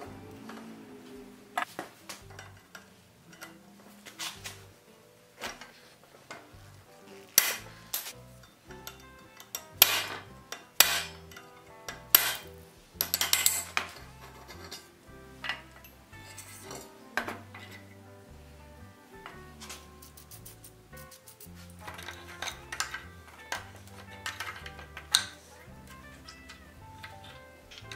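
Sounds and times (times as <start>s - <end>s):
light background music: 0.0s - 27.9s.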